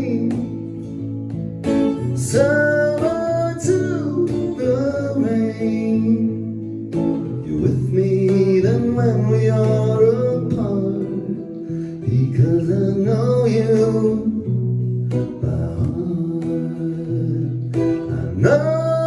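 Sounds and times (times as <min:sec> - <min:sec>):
person singing: 0:00.0 - 0:01.0, 0:01.9 - 0:19.0
acoustic guitar: 0:00.0 - 0:19.0.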